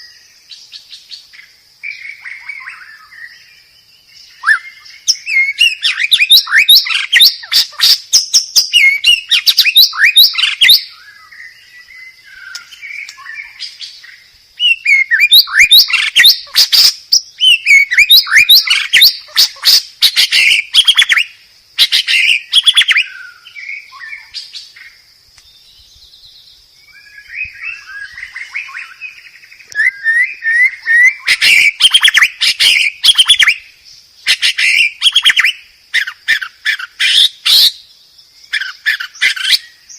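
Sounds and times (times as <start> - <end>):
bird singing trills and sweeps: 0.0 - 39.9.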